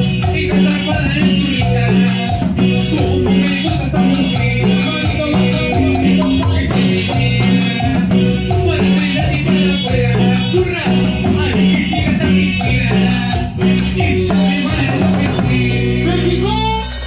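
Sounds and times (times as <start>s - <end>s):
bass: 0.0s - 17.0s
drums with dance beat: 0.0s - 17.0s
keyboards: 0.0s - 17.0s
live band dance music: 0.0s - 17.0s.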